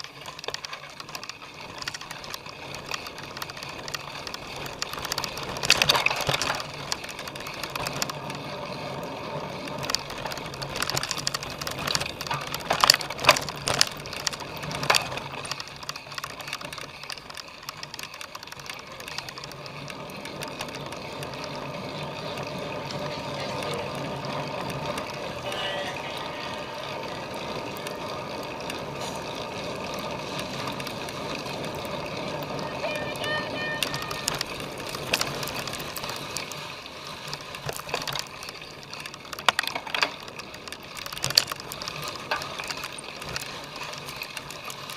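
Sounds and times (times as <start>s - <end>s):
bike clattering over rough ground: 0.0s - 44.9s.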